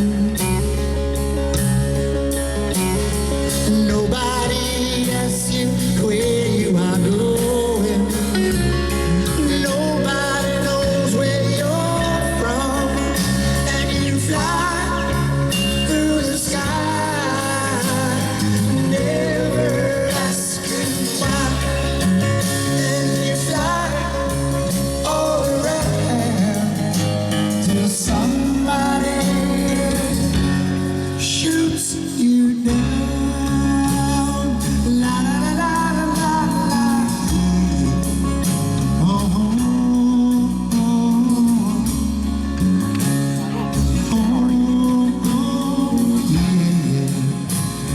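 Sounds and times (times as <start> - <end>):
bass line: 0.0 - 47.9
guitar: 0.0 - 47.9
person singing: 3.5 - 42.4, 43.4 - 47.9.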